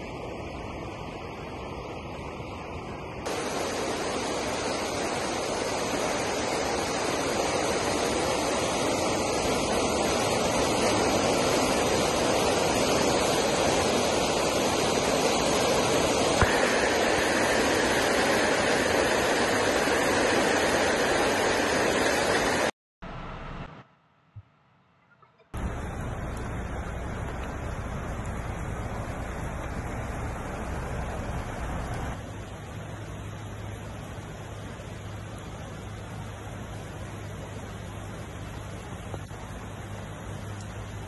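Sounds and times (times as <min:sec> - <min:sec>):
river water roaring: 0:00.0 - 0:22.7, 0:25.6 - 0:41.0.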